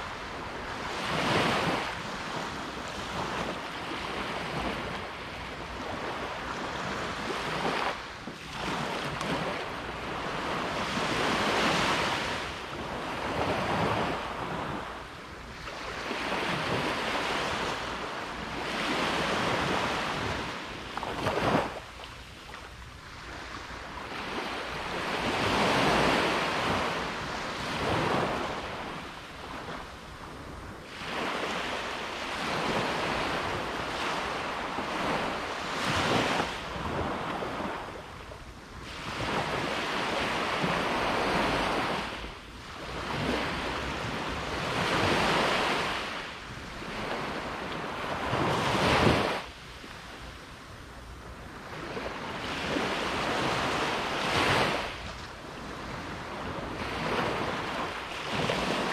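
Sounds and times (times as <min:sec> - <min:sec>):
wind on microphone: 0:00.0 - 0:58.9.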